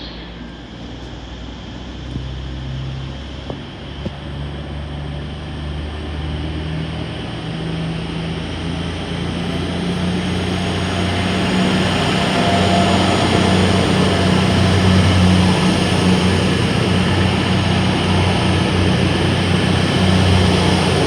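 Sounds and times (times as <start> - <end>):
diesel train engine running: 0.0 - 21.0.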